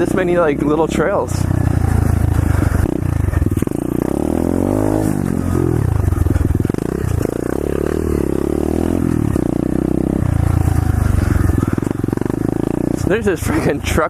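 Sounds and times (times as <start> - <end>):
pit bike engine revving: 0.0 - 14.0.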